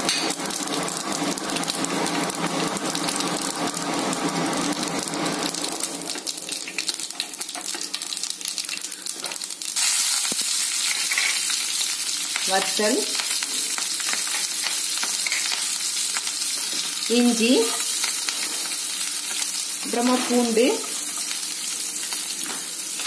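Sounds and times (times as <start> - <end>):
seeds sizzling in hot oil: 0.0 - 23.0.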